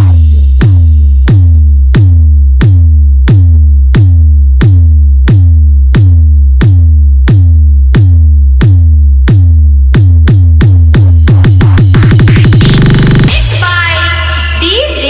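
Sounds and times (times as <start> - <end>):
drum machine kick hits: 0.0 - 15.0.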